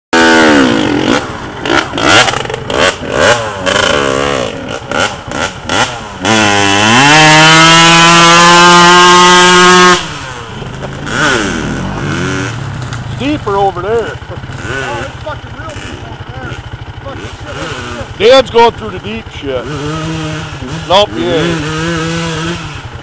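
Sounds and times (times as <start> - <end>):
dirt bike engine revving: 0.1 - 23.0.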